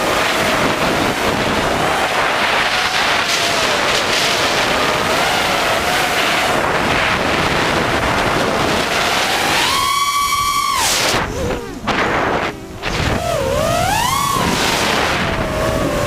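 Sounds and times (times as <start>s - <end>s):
small motor whining: 0.0s - 16.0s
wind buffeting microphone: 0.0s - 16.0s.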